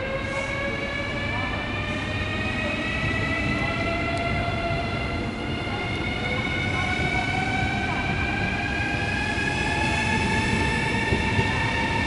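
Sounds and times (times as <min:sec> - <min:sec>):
low rumble of train cars: 0:00.0 - 0:12.0.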